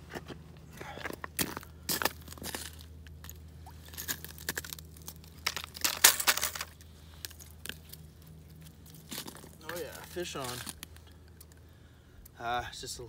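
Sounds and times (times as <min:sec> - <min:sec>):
crunching and rustling on ice: 0:00.0 - 0:11.6.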